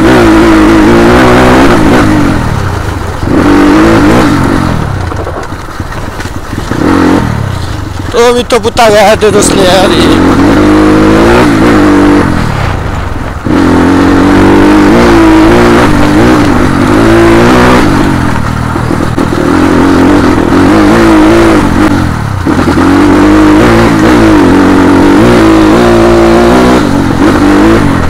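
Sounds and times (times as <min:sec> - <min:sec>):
vehicle engine accelerating: 0:00.0 - 0:28.0.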